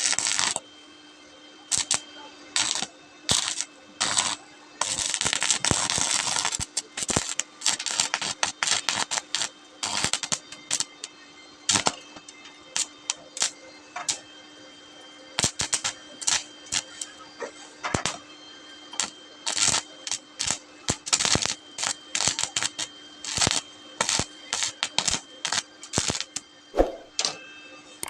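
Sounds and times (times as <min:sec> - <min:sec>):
welding arc crackling: 0:00.0 - 0:00.6, 0:01.7 - 0:11.1, 0:11.7 - 0:14.3, 0:15.2 - 0:17.2, 0:17.9 - 0:18.2, 0:18.9 - 0:26.4.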